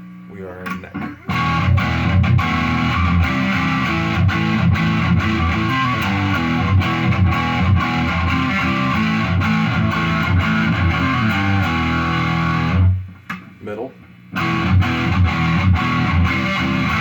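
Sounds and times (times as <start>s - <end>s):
distorted electric guitar riff: 0.7s - 13.1s, 14.3s - 17.0s.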